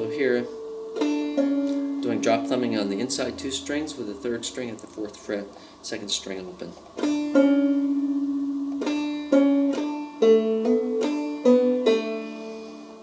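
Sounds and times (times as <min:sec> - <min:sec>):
banjo notes picked: 0:00.0 - 0:05.1, 0:06.9 - 0:13.0.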